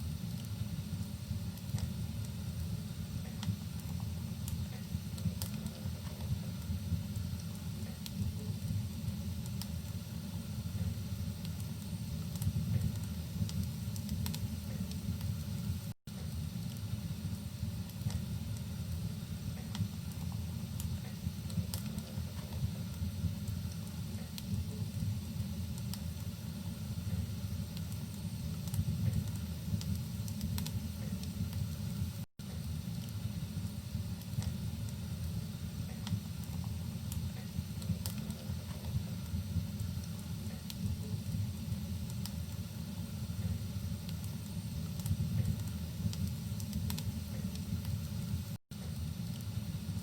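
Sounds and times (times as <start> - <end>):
fire popping: 0.0 - 50.0
soft hiss of rain: 0.0 - 50.0
wood fire crackling: 0.0 - 50.0.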